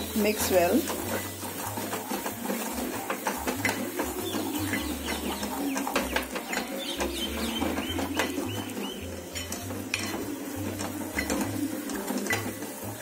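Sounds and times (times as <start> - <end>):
utensil scraping thick paste: 0.0 - 13.0.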